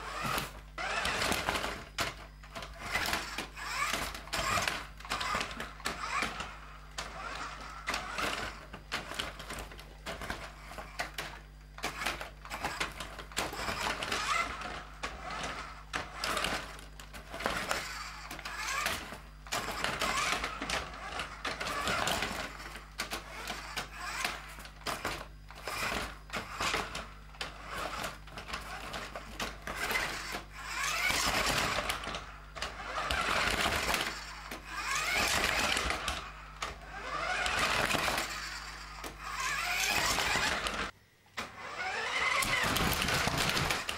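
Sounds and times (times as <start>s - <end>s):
toy truck motor whirring: 0.0s - 43.9s.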